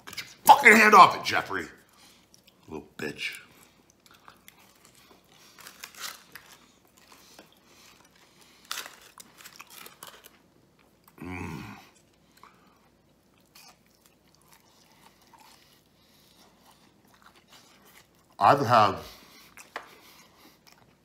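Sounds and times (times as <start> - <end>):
man chewing crunchy food: 1.8 - 18.4, 19.1 - 21.0.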